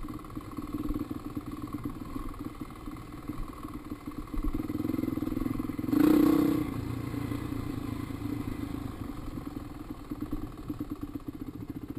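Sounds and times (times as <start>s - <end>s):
dirt bike engine running: 0.0s - 11.9s.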